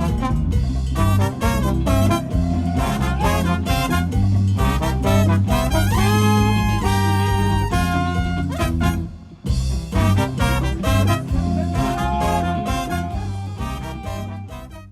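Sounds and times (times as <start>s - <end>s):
swing music with brass: 0.0s - 14.9s.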